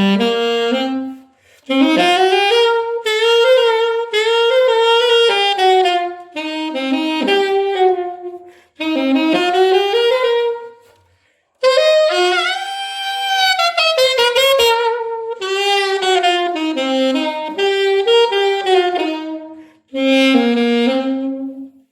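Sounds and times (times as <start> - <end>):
solo saxophone playing blues: 0.0 - 21.9.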